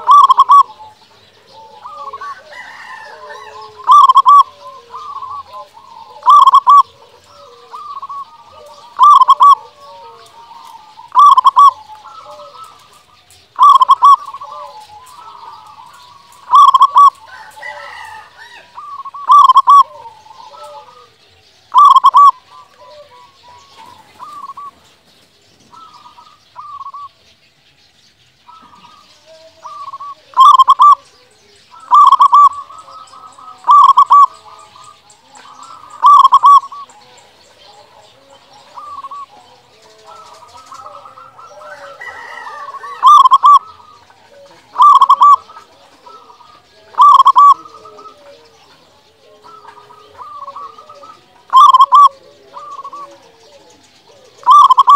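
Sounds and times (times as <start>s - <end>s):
dove cooing: 0.0s - 27.2s, 28.5s - 54.9s.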